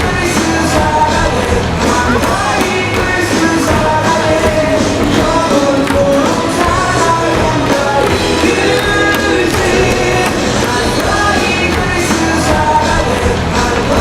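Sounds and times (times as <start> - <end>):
crowd singing in unison: 0.0 - 14.0
loud amplified cheer music: 0.0 - 14.0.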